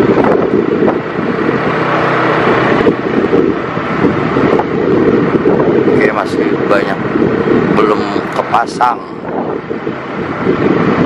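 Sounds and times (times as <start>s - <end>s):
vehicle running: 0.0s - 11.0s
wind buffeting microphone: 0.0s - 11.0s.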